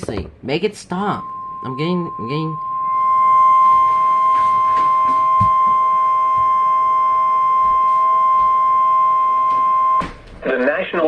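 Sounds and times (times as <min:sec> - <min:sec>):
loud high alarm tone: 0:01.1 - 0:10.1.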